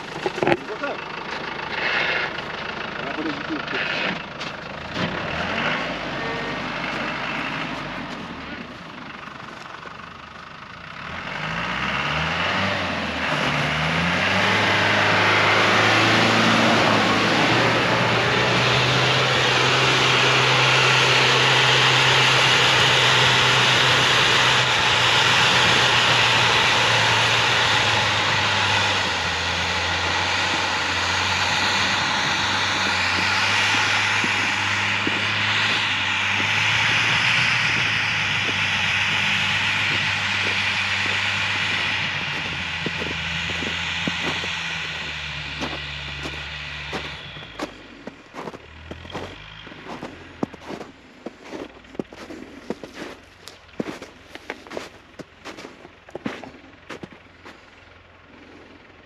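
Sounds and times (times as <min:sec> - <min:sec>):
four-wheel drive engine revving: 0:00.0 - 0:59.0.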